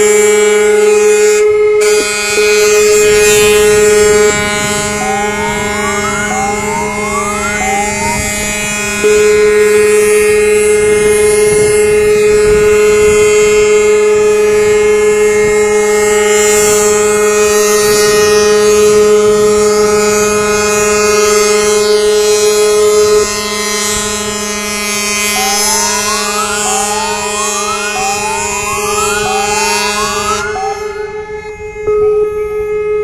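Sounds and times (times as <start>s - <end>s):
ships' horns chord: 0.0s - 32.8s
rising siren sweep: 0.0s - 33.0s
ship's horn blast: 0.0s - 33.0s.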